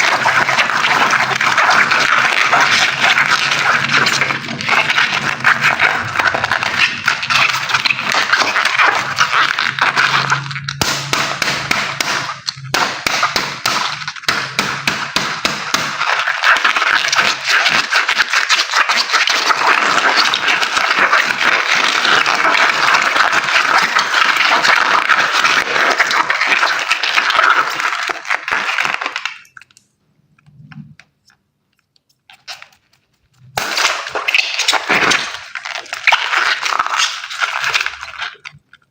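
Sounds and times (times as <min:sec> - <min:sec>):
water gushing and splattering: 0:00.0 - 0:14.4, 0:15.5 - 0:29.7, 0:33.6 - 0:38.9.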